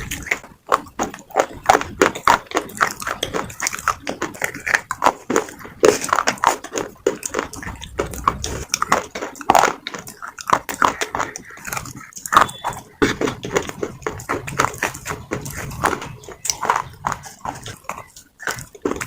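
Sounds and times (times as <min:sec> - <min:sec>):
gritty grinding: 0:00.0 - 0:19.0
pencils crunching between teeth: 0:00.0 - 0:19.0.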